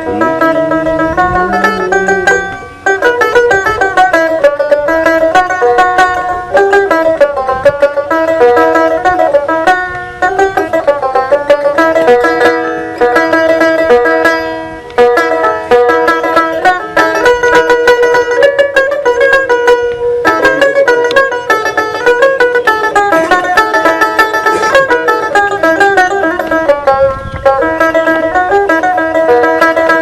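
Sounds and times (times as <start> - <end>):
plucked lute melody: 0.0 - 30.0.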